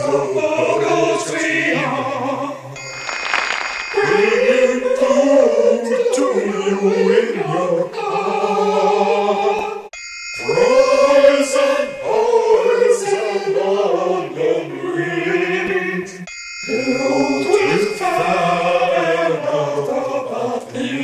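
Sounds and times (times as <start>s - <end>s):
choir singing in harmony: 0.0s - 2.9s, 3.9s - 21.0s.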